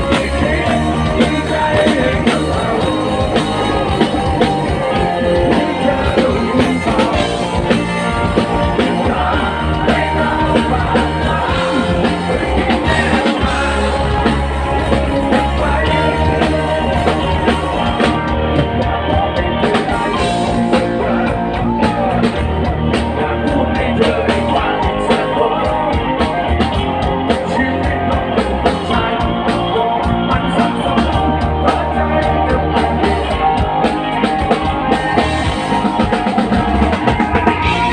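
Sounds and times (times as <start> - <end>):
bass: 0.0 - 37.9
drums: 0.0 - 37.9
electric guitar: 0.0 - 37.9
person singing: 0.0 - 37.9.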